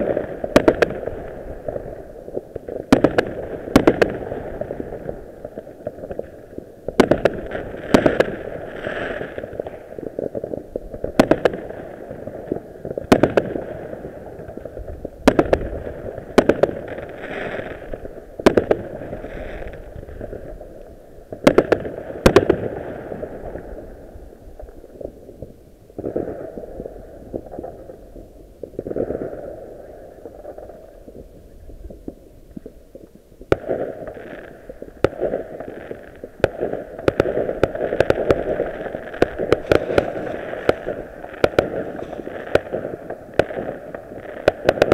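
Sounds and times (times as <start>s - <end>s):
fireworks bangs: 0.0s - 24.1s, 25.0s - 44.9s.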